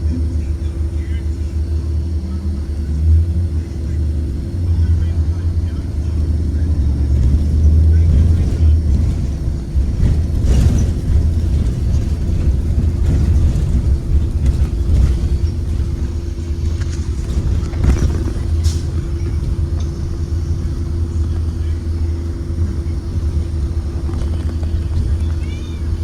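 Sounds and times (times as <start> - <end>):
bus body rattles: 0.0 - 26.0
bus engine and road rumble: 0.0 - 26.0.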